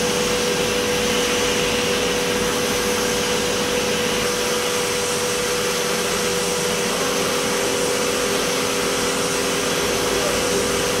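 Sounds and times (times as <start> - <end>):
machine spindle hiss and whine: 0.0 - 11.0.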